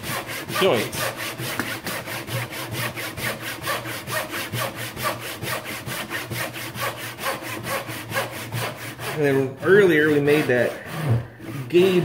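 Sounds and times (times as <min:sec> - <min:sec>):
hand saw cutting wood: 0:00.0 - 0:12.0.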